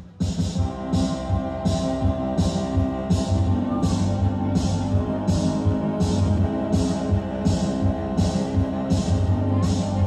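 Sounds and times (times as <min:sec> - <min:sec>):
held synthesizer chords: 0:00.0 - 0:10.0
low pulsing bass: 0:00.6 - 0:10.0.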